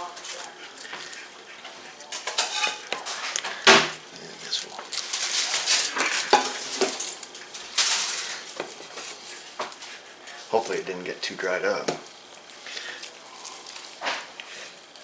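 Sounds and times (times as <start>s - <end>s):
knife carving chicken: 0.0s - 15.0s.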